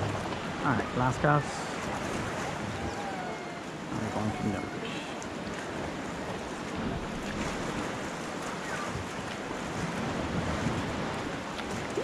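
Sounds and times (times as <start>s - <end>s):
small waves against rocks: 0.0s - 12.0s
wind on microphone: 1.7s - 12.0s.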